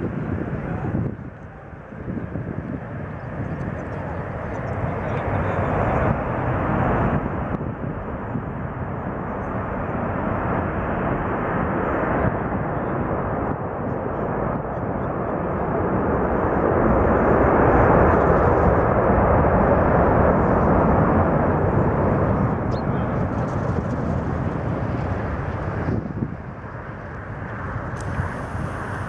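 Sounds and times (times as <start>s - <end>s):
jet engines at high thrust: 0.0s - 29.0s.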